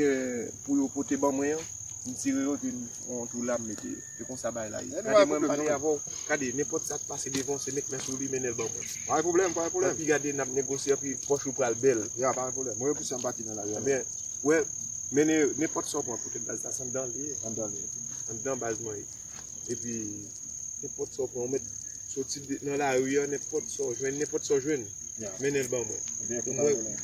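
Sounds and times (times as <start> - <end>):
man talking: 0.0 - 19.1, 19.7 - 27.0
insects buzzing high-pitched: 0.0 - 27.0.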